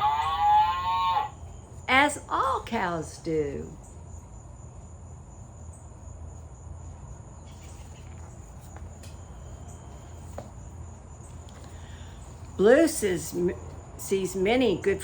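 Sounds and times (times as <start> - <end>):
crickets chirping: 0.0 - 15.0
low steady hum: 0.0 - 15.0.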